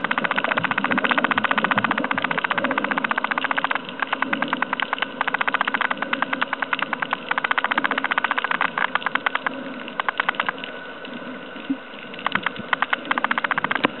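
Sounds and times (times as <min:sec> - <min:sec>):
low underwater hum: 0:00.0 - 0:14.0
underwater clicking and crackling: 0:00.0 - 0:14.0.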